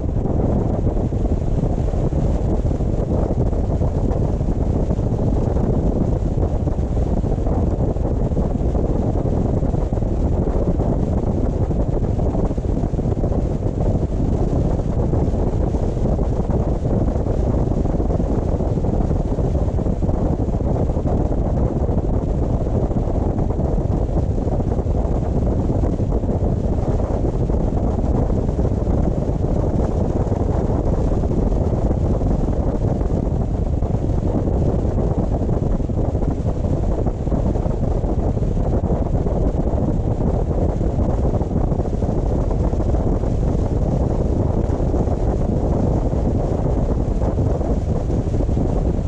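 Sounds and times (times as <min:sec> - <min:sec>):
car road and wind noise: 0:00.0 - 0:49.0.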